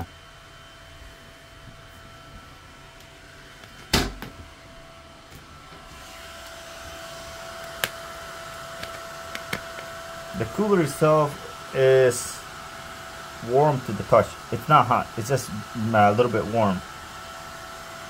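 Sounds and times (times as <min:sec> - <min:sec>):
computer fans whirring: 0:00.0 - 0:18.0.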